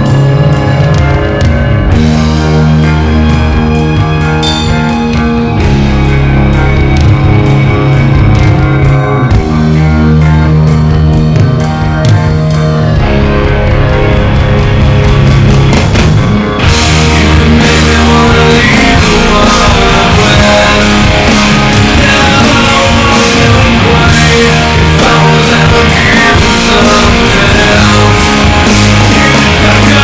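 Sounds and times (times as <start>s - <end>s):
bass guitar: 0.0s - 30.0s
drum kit: 0.0s - 30.0s
electric guitar: 0.0s - 30.0s.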